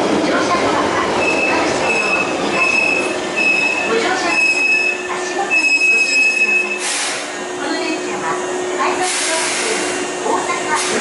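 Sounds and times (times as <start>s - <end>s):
train cars rumbling: 0.0s - 11.0s.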